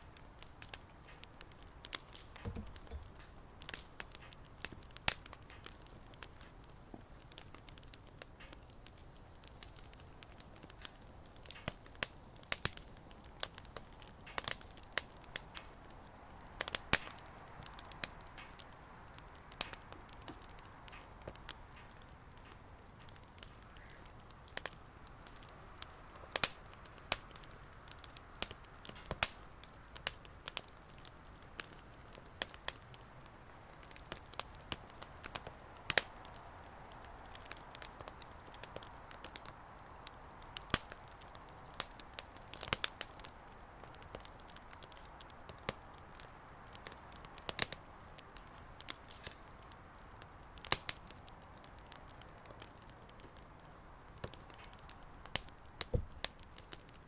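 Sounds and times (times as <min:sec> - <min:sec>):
bonfire crackling and popping: 0:00.0 - 0:57.0
low steady fire hiss: 0:00.0 - 0:57.0.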